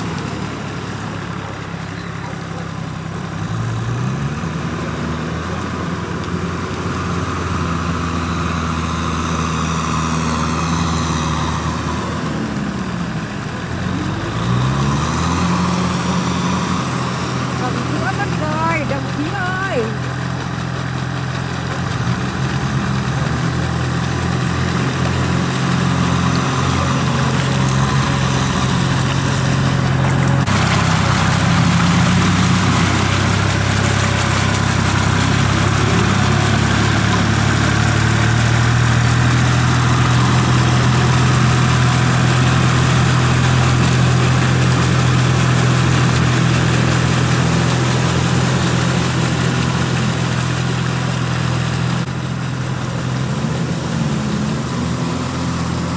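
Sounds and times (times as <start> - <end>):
diesel tractor engines running: 0.0 - 55.9.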